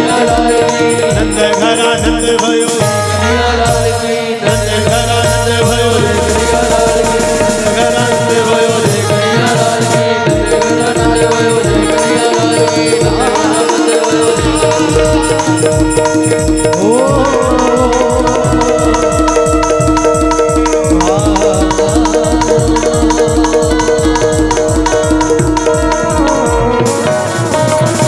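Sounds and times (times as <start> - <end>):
hand drum beat: 0.0 - 28.0
sustained melody tones: 0.0 - 28.0.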